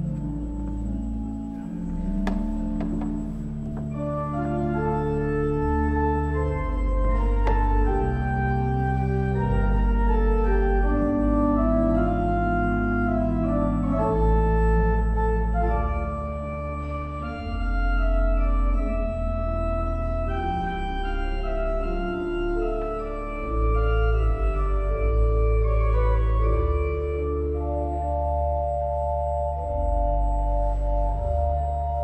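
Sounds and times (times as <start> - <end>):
pipe organ chords: 0.0 - 32.0.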